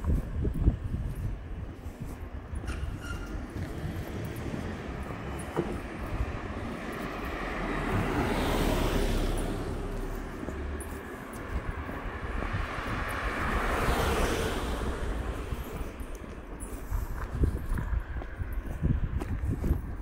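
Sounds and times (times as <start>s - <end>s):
road vehicles passing: 0.0s - 20.0s.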